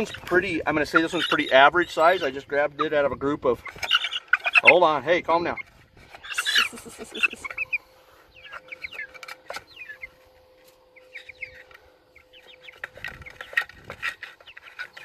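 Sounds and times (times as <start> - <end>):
chicken clucking and cheeping: 0.0 - 15.0.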